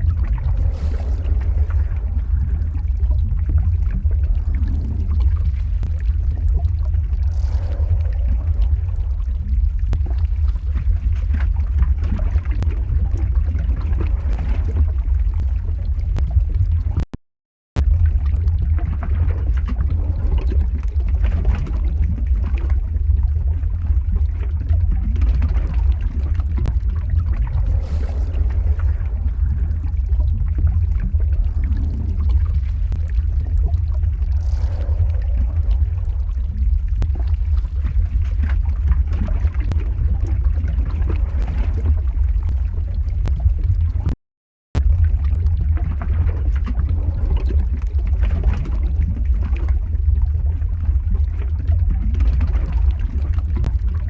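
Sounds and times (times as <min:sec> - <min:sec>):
lava deep rumble: 0:00.0 - 0:17.1, 0:17.7 - 0:54.0.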